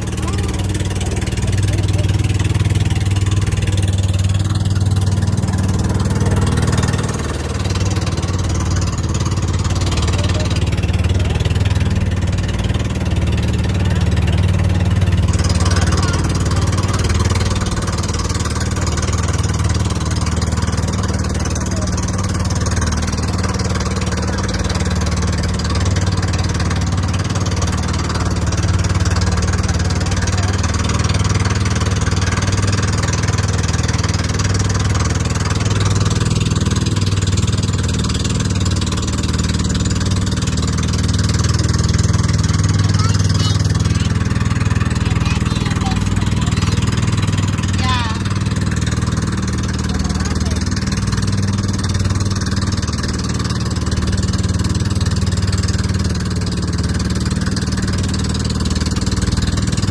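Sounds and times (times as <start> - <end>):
boat engine running: 0.0 - 59.9
water rushing: 0.0 - 59.9
wind: 0.0 - 59.9.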